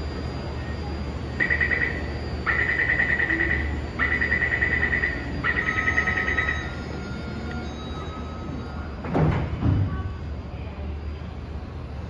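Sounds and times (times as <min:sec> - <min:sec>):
low station hum: 0:00.0 - 0:12.0.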